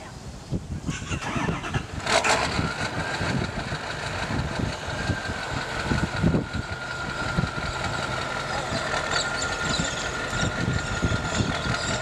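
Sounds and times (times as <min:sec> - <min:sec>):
vehicle engine idling: 0:01.0 - 0:12.0.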